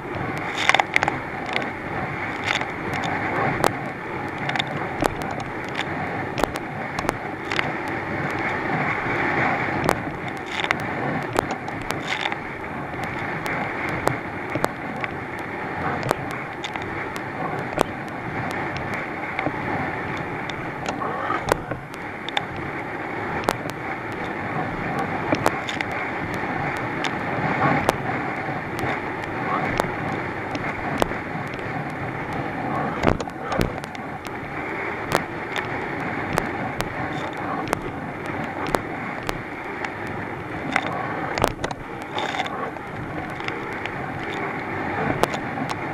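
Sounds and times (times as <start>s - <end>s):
hull slapping waves: 0.0s - 45.9s
outboard motor: 0.0s - 45.9s
rush of wind and water: 0.0s - 45.9s.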